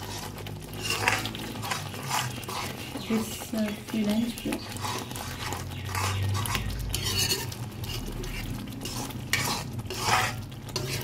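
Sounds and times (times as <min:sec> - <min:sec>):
gravy frying: 0:00.0 - 0:11.0
metal spoon scraping a pan: 0:00.0 - 0:11.0.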